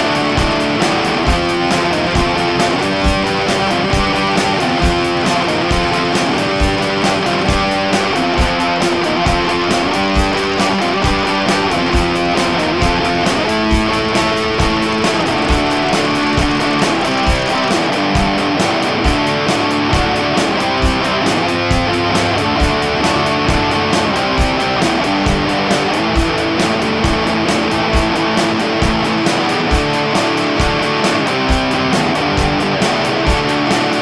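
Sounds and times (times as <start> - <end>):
rock music with electric guitar: 0.0 - 34.0
steady drum beat: 0.0 - 34.0.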